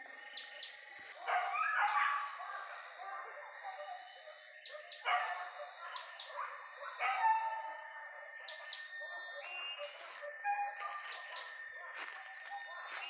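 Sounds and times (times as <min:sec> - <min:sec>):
forest birds chirping: 0:00.0 - 0:13.0.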